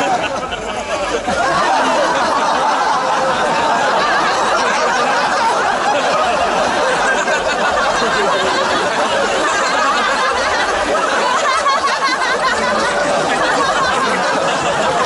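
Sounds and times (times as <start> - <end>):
crowd laughing: 0.0 - 15.0.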